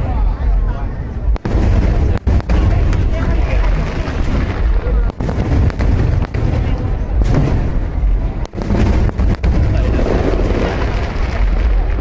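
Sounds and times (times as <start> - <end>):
sharp firework reports: 0.5 - 12.0
fireworks bursting: 1.2 - 12.0.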